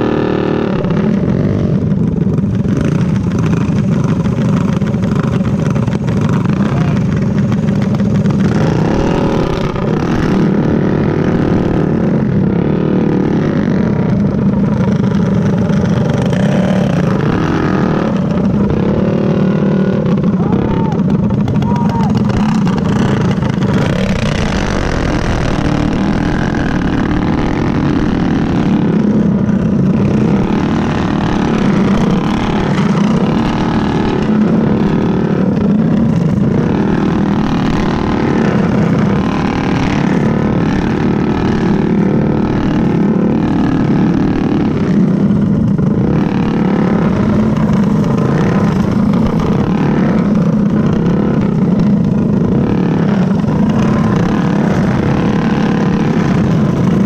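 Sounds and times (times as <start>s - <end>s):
kart engines racing: 0.0s - 57.0s.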